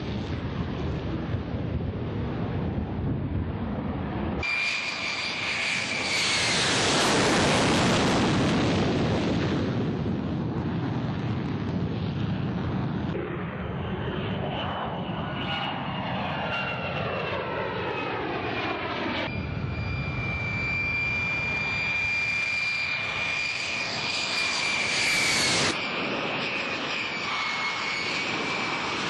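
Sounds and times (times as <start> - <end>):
jet engine rumble and whine: 0.0 - 29.0.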